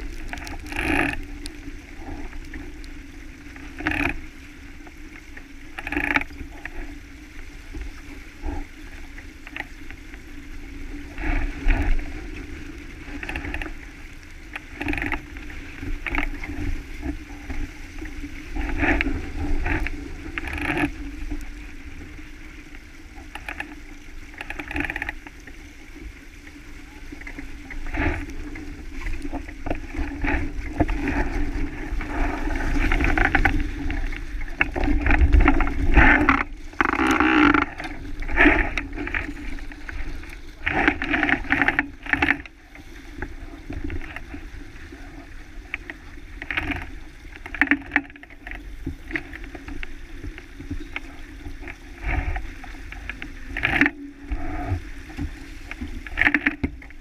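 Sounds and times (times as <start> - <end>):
water rushing along boat hull: 0.0 - 57.0.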